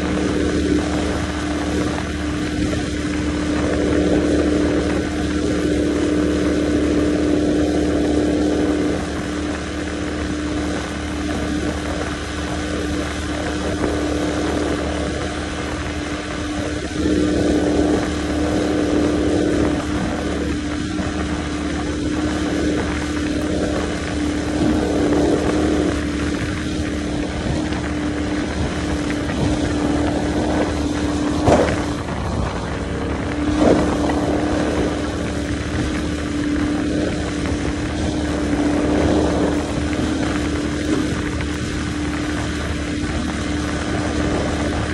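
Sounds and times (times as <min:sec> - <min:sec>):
outboard motor drone: 0:00.0 - 0:44.9
rushing water: 0:00.0 - 0:44.9
wind: 0:00.0 - 0:44.9.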